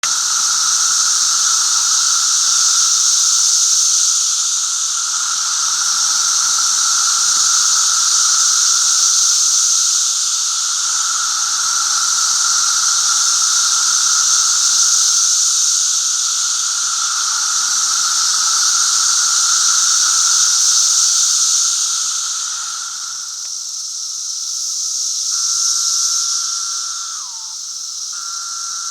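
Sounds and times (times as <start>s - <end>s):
cicadas droning: 0.0s - 28.9s.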